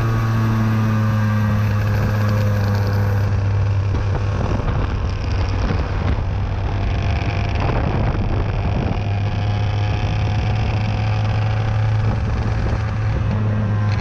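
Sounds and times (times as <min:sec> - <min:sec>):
kart engine buzzing: 0:00.0 - 0:14.0.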